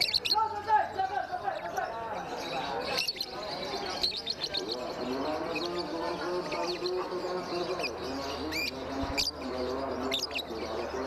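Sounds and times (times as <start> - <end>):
lovebird chirping: 0.0 - 0.4, 1.6 - 11.0.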